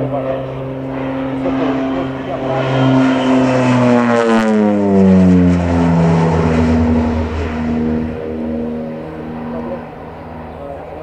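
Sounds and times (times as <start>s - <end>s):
turboprop aircraft passing overhead: 0.0s - 11.0s.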